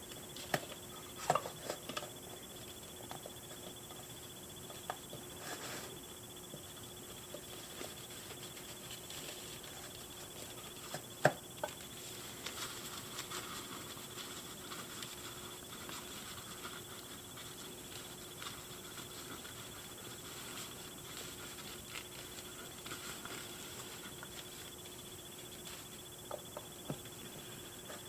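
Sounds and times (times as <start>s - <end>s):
soft plastic ticks and rustles: 4.7s - 28.0s.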